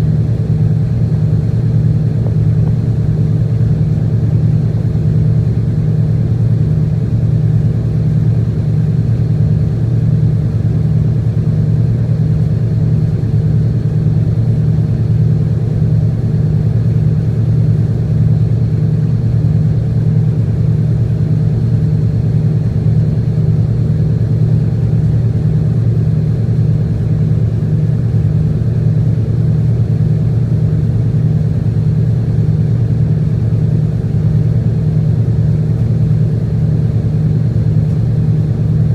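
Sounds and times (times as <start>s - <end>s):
boat diesel engine drone: 0.0s - 38.9s.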